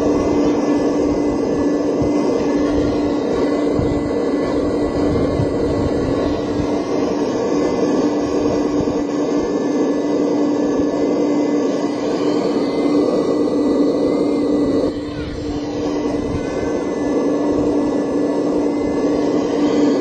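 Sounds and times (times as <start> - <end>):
hydraulic pump humming: 0.0 - 20.0.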